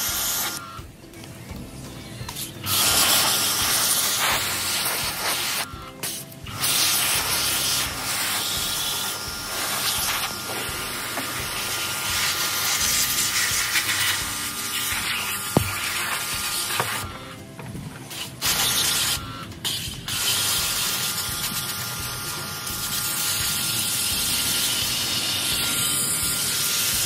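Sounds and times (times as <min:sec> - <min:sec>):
high-pressure water spray hissing: 0:00.0 - 0:00.6, 0:02.4 - 0:17.1, 0:18.1 - 0:27.0.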